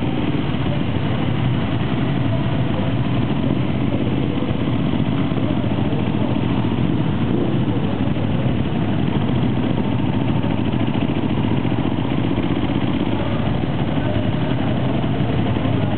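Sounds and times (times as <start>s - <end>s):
motorcycle engines rumbling: 0.0s - 15.9s.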